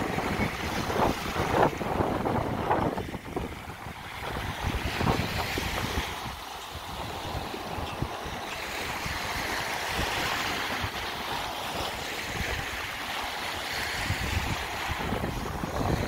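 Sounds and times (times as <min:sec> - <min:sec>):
waves washing on sand: 0:00.0 - 0:16.0
wind buffeting microphone: 0:00.0 - 0:16.0.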